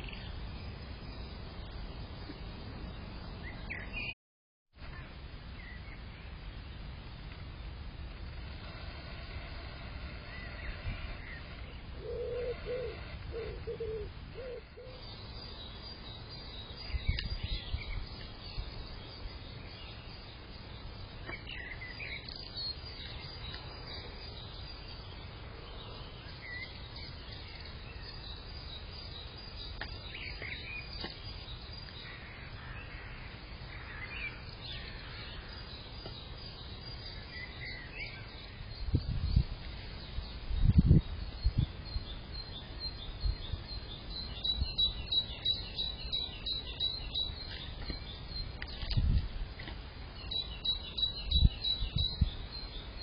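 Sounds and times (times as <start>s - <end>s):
steady background hiss: 4.8s - 53.0s
small birds chirping: 8.3s - 53.0s.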